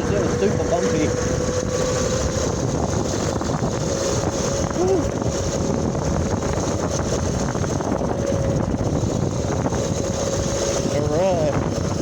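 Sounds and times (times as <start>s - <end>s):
motorbike rumble: 0.0s - 12.0s
thin electric whine: 0.0s - 12.0s
wind buffeting microphone: 0.0s - 12.0s.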